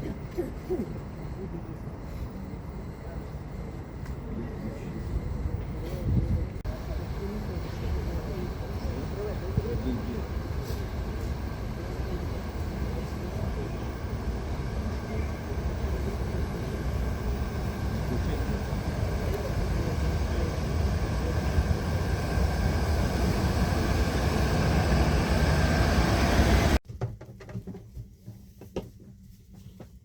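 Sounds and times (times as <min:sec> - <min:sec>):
train rumbling: 0:02.7 - 0:26.8.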